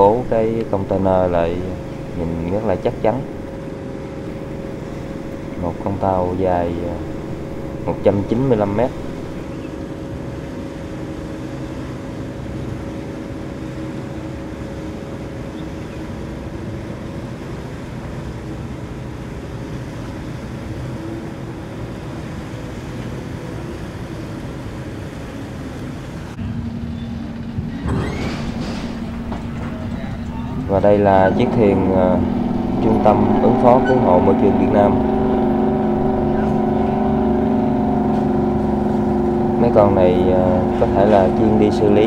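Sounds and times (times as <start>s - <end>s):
marine engine drone: 0.0s - 42.0s.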